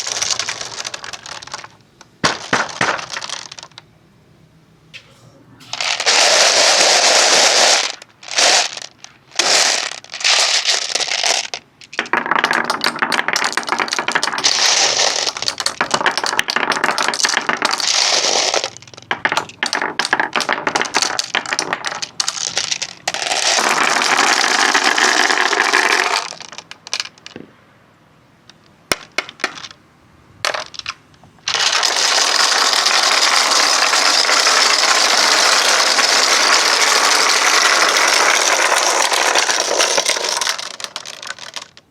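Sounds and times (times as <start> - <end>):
marbles clicking on joints: 0.0 - 3.9, 5.7 - 27.5, 28.4 - 29.8, 30.4 - 41.9
marbles rolling on wooden tracks: 0.0 - 3.9, 5.7 - 27.5, 28.5 - 29.8, 30.4 - 41.9.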